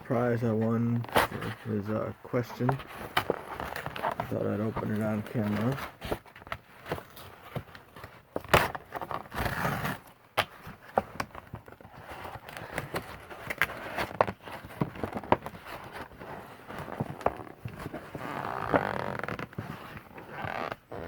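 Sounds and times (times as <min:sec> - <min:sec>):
cardboard rustle: 0:00.2 - 0:21.0.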